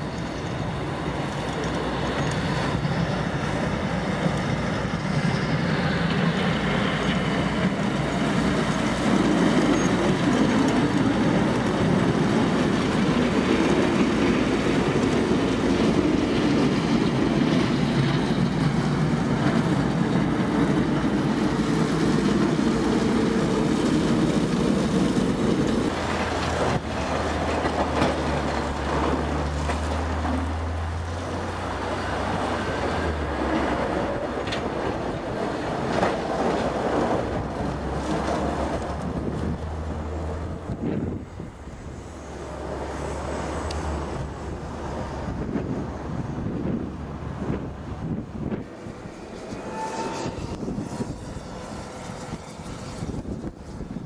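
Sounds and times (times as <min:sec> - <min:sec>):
plow truck grinding rumble: 0:00.0 - 0:54.0.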